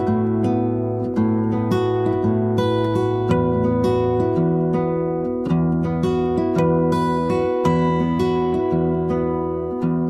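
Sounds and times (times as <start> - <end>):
acoustic guitar picking: 0.0 - 10.0.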